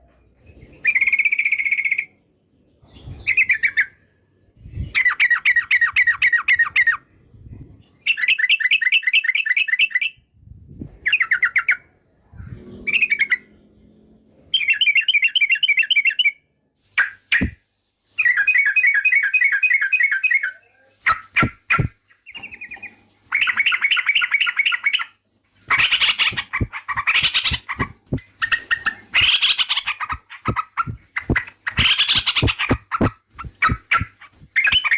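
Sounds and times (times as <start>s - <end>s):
bird chattering song: 0.4s - 7.2s, 7.8s - 10.3s, 11.0s - 16.4s, 18.2s - 34.9s.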